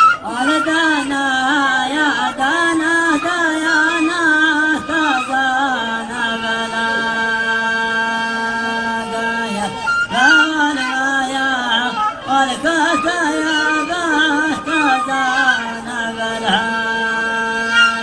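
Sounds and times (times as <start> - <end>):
man chanting sung melody: 0.0 - 18.0.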